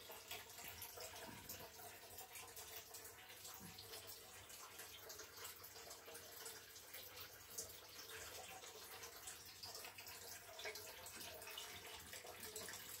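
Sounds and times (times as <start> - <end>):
small water drips: 0.0 - 13.0
water trickling: 0.0 - 13.0.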